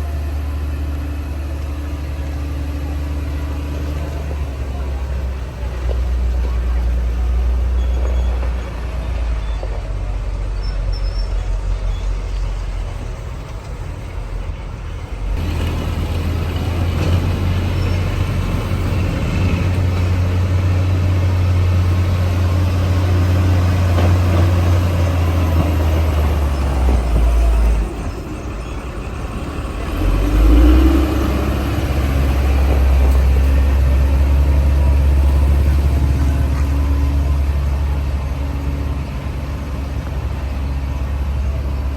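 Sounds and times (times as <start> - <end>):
bulldozer diesel engine working: 0.0 - 41.9.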